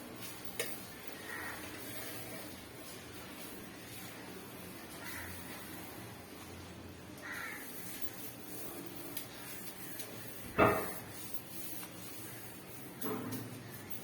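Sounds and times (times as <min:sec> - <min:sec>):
soft rubbing sound: 0:00.0 - 0:14.0.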